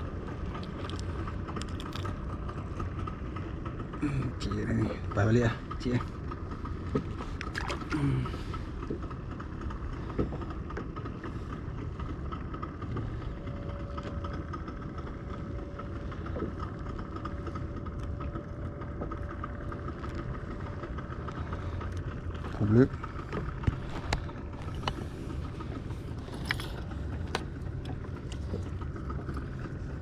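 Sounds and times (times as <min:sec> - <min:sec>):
faint steady hum: 0:00.0 - 0:30.0
wind and water rumble: 0:00.0 - 0:30.0.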